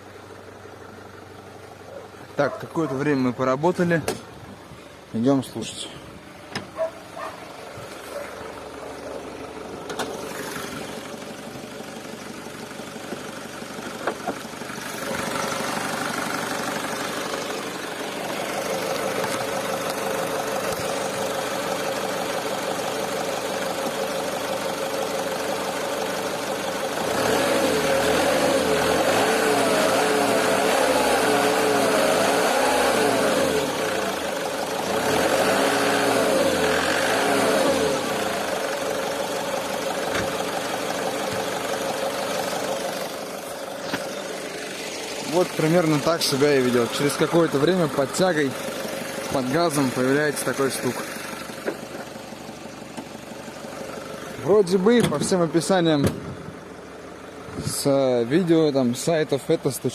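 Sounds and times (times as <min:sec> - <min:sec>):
diesel engine running and revving: 0:00.0 - 0:59.9.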